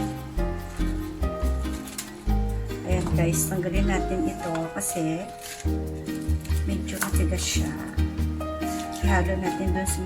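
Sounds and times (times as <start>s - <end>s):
background music with bass line: 0.0s - 4.6s, 5.7s - 10.0s.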